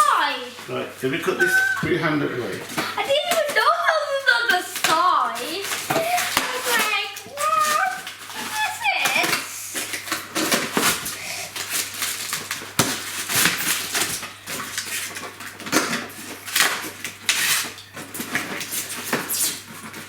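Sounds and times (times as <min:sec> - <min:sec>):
packaging rustling: 0:00.0 - 0:20.0
toy parts clattering: 0:02.5 - 0:19.8.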